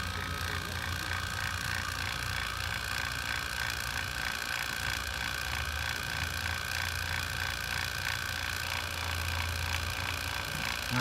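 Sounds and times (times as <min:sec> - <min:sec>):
vacuum pump humming and whining: 0:00.0 - 0:11.0.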